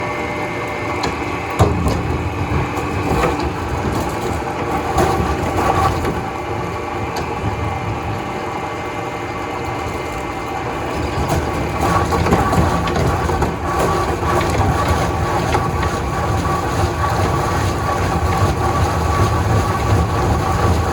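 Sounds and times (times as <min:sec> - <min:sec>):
factory machinery hum and rumble: 0:00.0 - 0:20.9.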